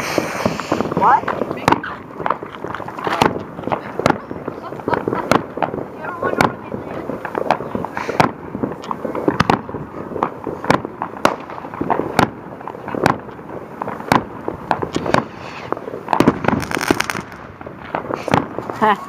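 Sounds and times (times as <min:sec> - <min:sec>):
fireworks bangs and pops: 0:00.0 - 0:19.0
fireworks crackling: 0:00.0 - 0:19.0.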